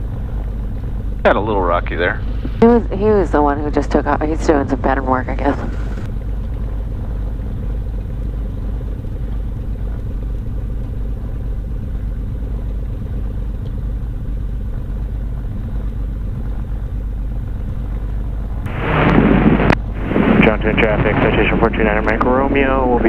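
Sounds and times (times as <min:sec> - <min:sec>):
twin piston aircraft engines droning: 0:00.0 - 0:23.0.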